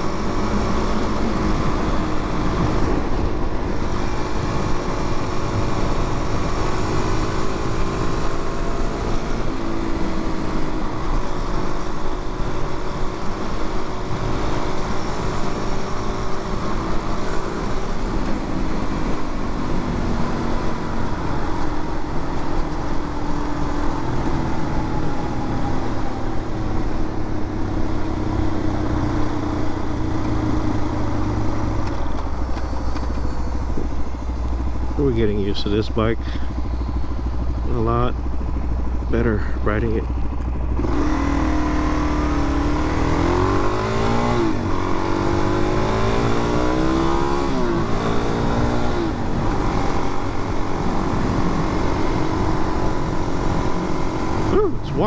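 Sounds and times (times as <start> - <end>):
heavy wind and road rush: 0.0 - 55.0
motorcycle engine running: 0.0 - 55.0.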